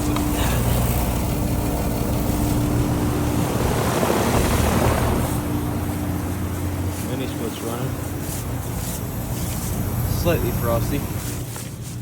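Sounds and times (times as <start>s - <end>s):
fan air rushing: 0.0s - 12.0s
heat pump humming: 0.0s - 12.0s.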